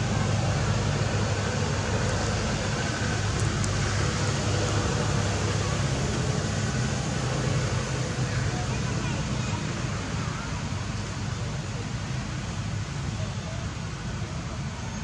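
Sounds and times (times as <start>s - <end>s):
constant rushing hiss: 0.0s - 15.0s.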